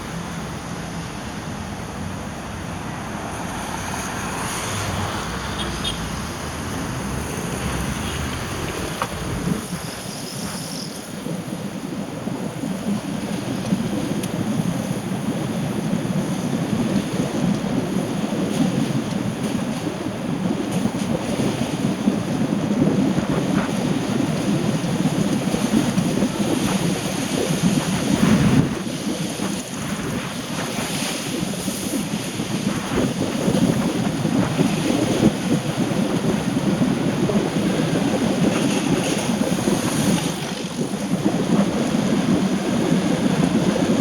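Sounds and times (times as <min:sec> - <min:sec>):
rain: 0:00.0 - 0:44.0
wind: 0:00.0 - 0:44.0.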